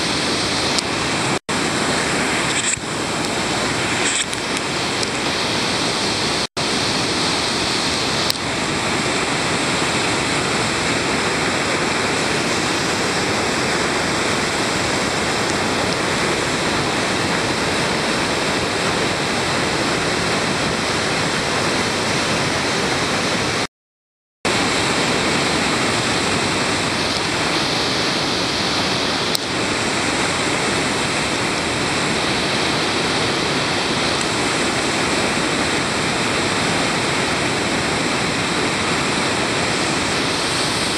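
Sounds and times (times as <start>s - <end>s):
whitewater rapids roaring: 0.0s - 23.7s, 24.5s - 40.9s.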